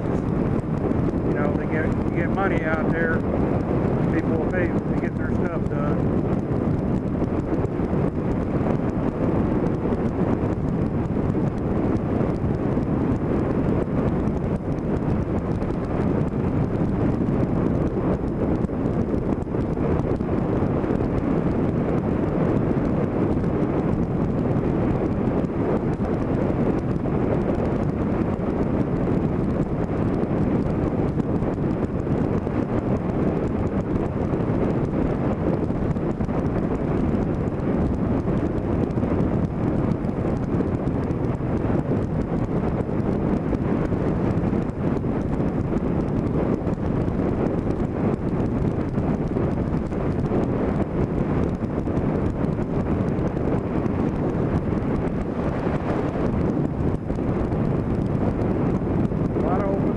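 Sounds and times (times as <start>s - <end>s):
vehicle road noise: 0.0s - 59.9s
wind on microphone: 0.0s - 59.9s.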